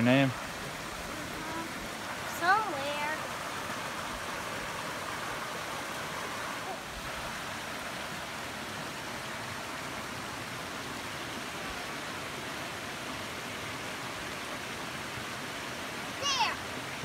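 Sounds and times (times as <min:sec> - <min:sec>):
water rushing down small cascade: 0:00.0 - 0:17.0.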